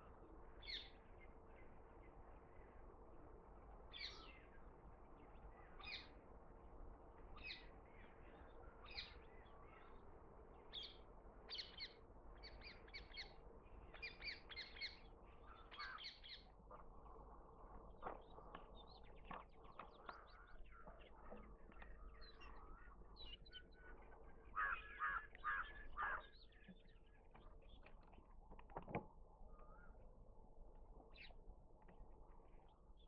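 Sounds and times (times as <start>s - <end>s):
birds calling faintly: 0.0s - 33.0s.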